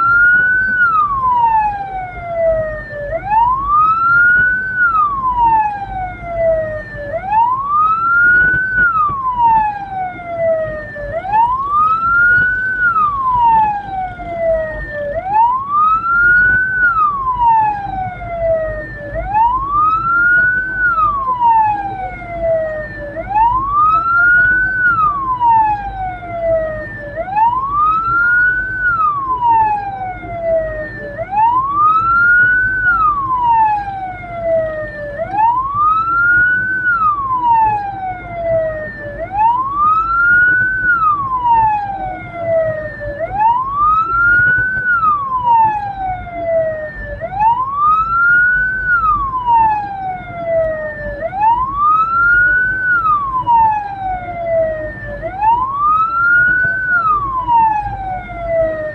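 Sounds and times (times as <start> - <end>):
siren wailing: 0.0 - 58.9.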